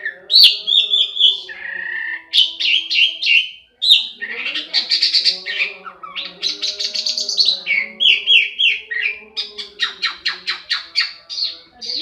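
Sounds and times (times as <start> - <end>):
starling chattering song: 0.0 - 12.0.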